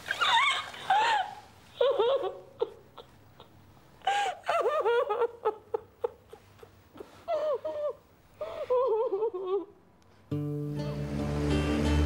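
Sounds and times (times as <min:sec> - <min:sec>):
woman sobbing: 0:00.1 - 0:09.9.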